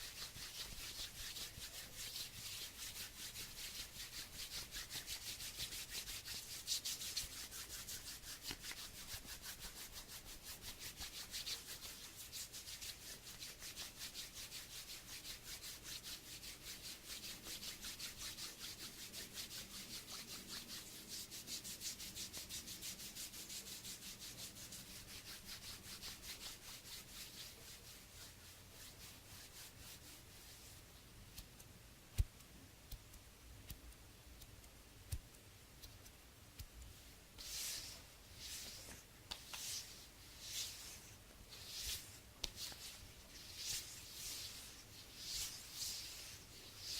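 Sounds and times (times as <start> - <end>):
hands rubbing together: 0.0 - 30.9, 36.9 - 46.9.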